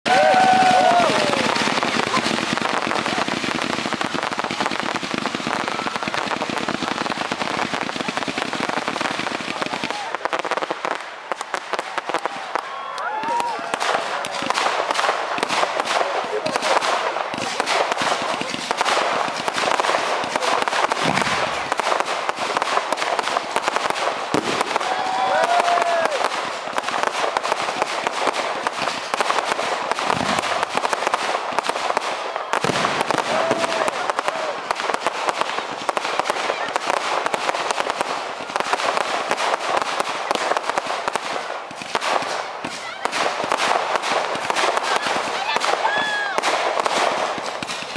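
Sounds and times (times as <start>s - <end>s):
fireworks crackling and popping: 0.0s - 47.9s.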